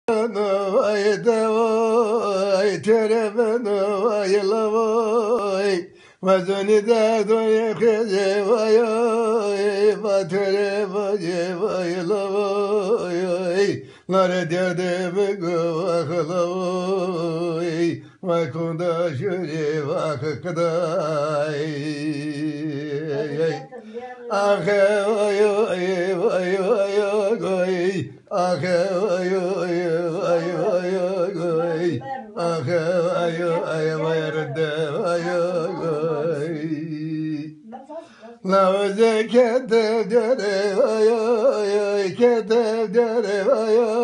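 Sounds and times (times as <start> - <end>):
elderly man singing unaccompanied: 0.0 - 44.0.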